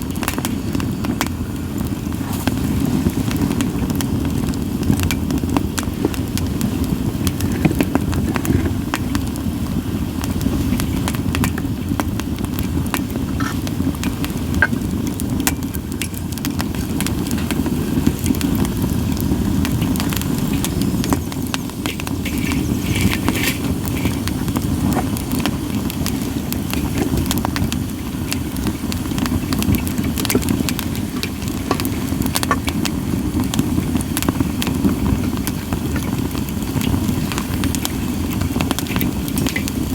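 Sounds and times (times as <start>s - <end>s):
fire hiss: 0.0s - 39.9s
firewood crackling and popping: 0.0s - 39.9s
flames rumbling: 0.0s - 39.9s.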